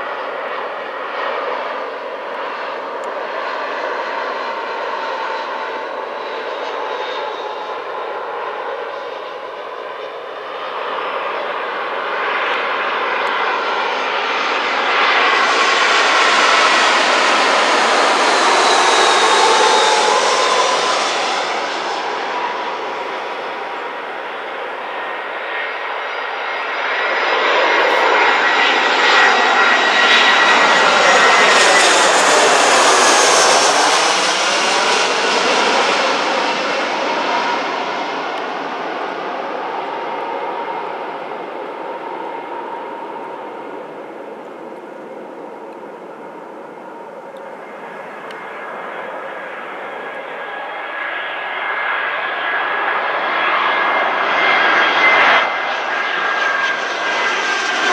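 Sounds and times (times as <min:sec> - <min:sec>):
jet airliner passing overhead: 0:00.0 - 0:57.9.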